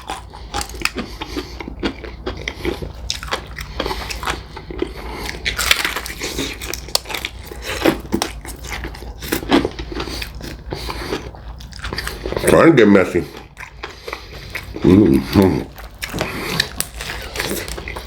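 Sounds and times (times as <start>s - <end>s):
crunching fried chicken: 0.0s - 18.0s.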